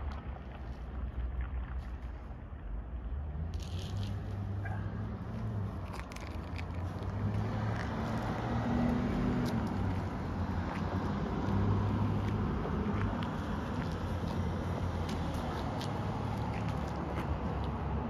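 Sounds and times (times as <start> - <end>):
car engine passing: 3.2 - 18.0
canvas rustling on asphalt: 3.5 - 18.0.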